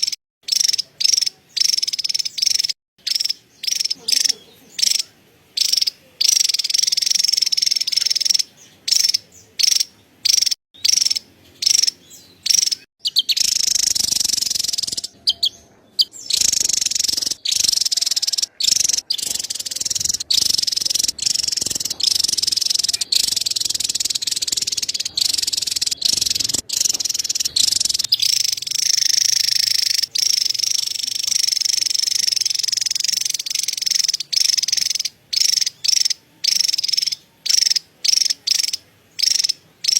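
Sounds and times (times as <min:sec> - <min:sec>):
bird chattering call: 0:00.0 - 0:39.9.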